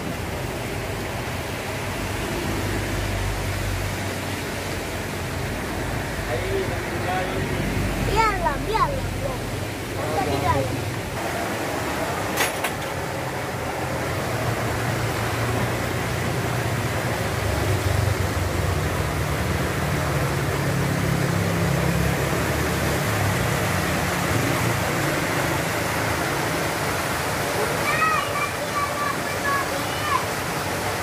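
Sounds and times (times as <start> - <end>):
creek rushing: 0.0 - 31.0.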